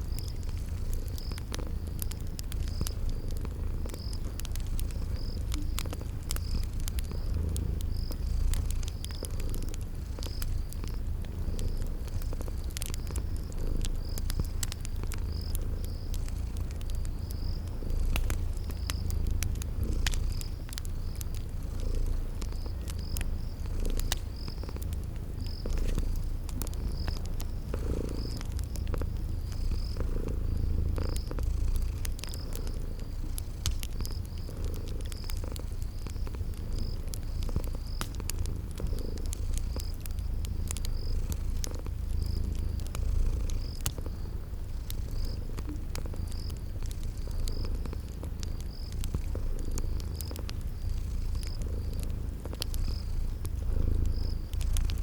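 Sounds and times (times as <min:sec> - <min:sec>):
cat purring: 0:00.0 - 0:55.0
crickets chirping: 0:00.0 - 0:55.0
wood fire crackling: 0:00.0 - 0:55.0.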